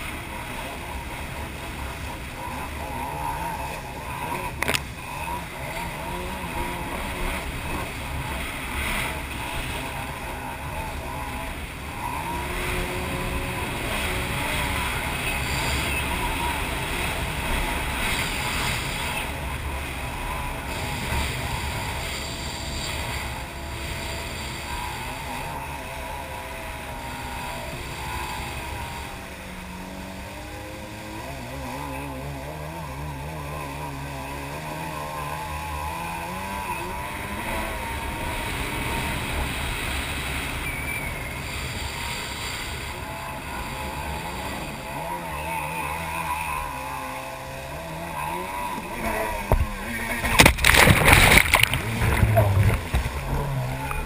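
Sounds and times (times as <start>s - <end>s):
jet ski engine: 0.0s - 54.0s
wind and water rushing: 0.0s - 54.0s.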